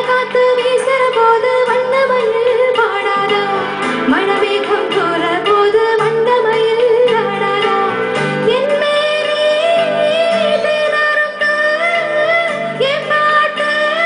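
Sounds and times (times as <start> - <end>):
live instrumental accompaniment: 0.0 - 14.0
woman singing into a microphone: 0.0 - 14.0.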